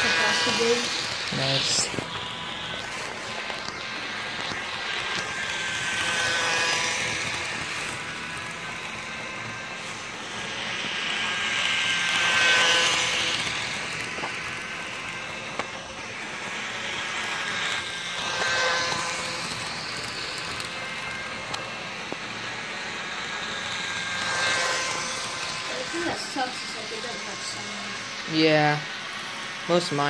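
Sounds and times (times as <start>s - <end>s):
model train motor humming: 0.0s - 30.0s
wheels rolling on rails: 0.0s - 30.0s.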